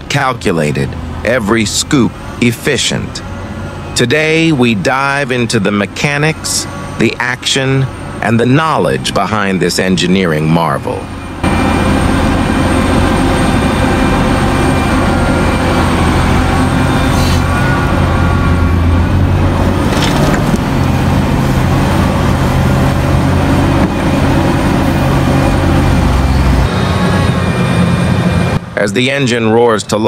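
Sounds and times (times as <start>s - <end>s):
excavator diesel engine under load: 0.0s - 30.0s.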